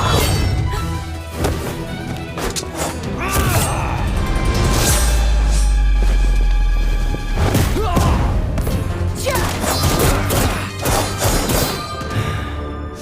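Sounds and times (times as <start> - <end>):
loud background music: 0.0 - 13.0.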